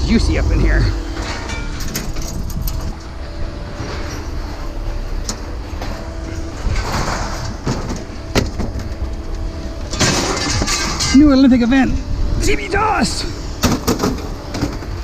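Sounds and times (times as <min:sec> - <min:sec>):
engine rumbling: 0:00.0 - 0:15.0
faint steady tones: 0:00.0 - 0:15.0.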